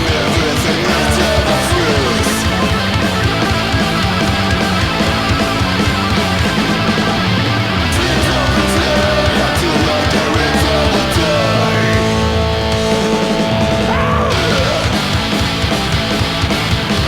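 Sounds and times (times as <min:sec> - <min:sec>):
punk rock song: 0:00.0 - 0:17.0.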